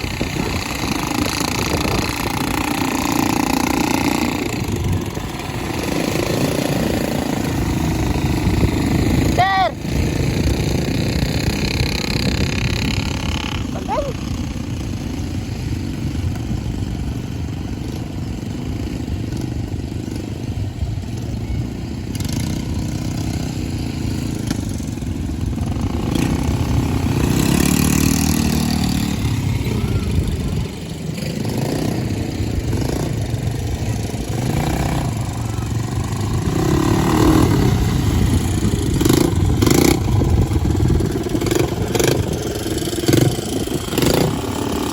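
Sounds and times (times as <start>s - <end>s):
atv engine low rumble: 0.0s - 44.9s.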